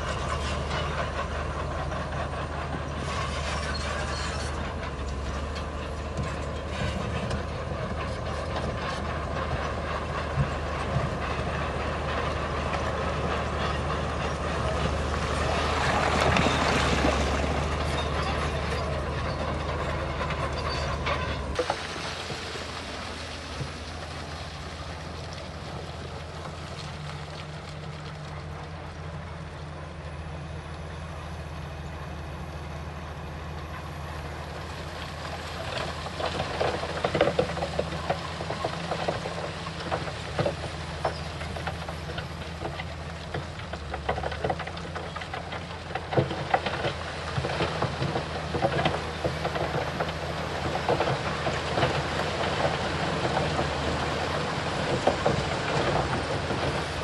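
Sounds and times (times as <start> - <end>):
steel tracks clanking and rattling: 0.0 - 30.4, 31.1 - 57.0
bulldozer diesel engine running: 0.0 - 57.0.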